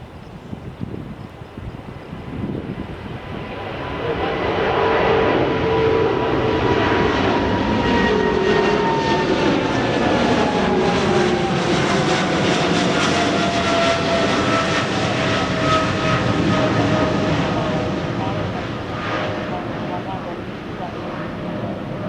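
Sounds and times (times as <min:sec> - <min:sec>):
jet airliner engines roaring: 0:00.0 - 0:22.0.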